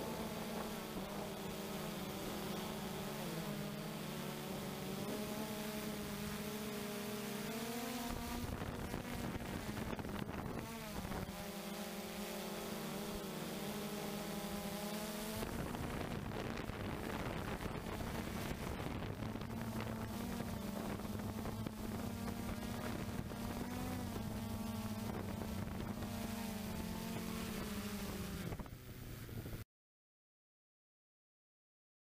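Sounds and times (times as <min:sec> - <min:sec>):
drone motors buzzing: 0:00.0 - 0:29.6.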